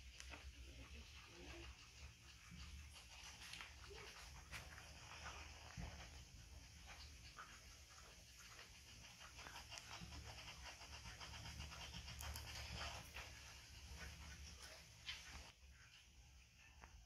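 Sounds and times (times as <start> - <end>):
baby monkey sucking on bottle: 0.0 - 15.6.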